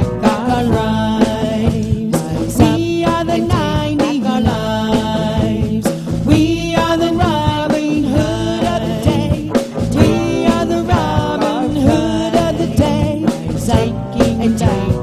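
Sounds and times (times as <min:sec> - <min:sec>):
band backing music: 0:00.0 - 0:15.0
person singing: 0:00.0 - 0:15.0
steady drum beat: 0:00.0 - 0:15.0.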